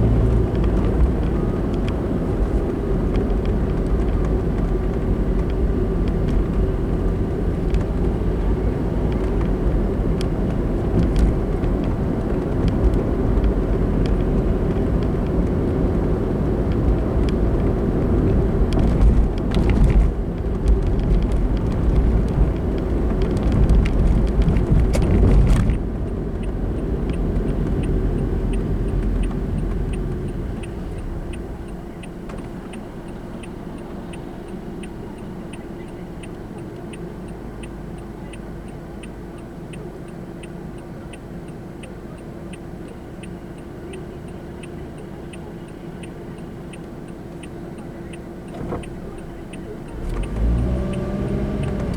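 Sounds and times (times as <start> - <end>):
car engine and tyre rumble: 0.0 - 51.9
turn signal ticking: 0.0 - 51.9.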